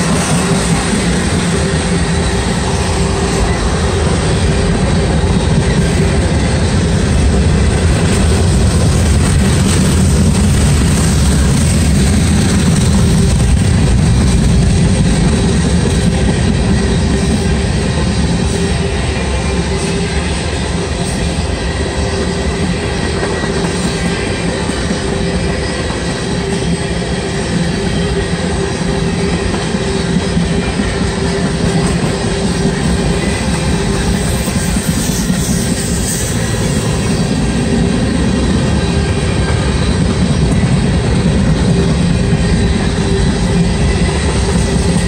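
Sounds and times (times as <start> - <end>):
freight train wheels rumbling: 0.0 - 45.0.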